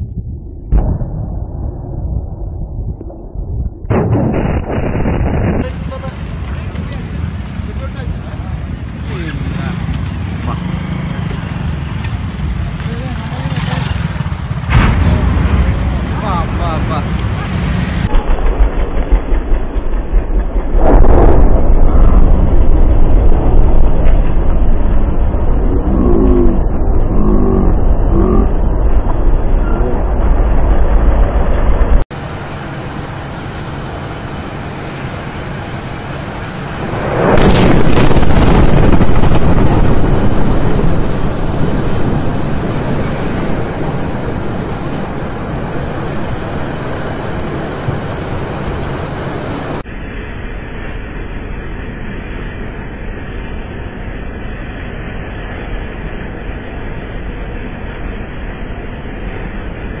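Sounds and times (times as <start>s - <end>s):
large explosion rumbling: 0.0s - 50.6s.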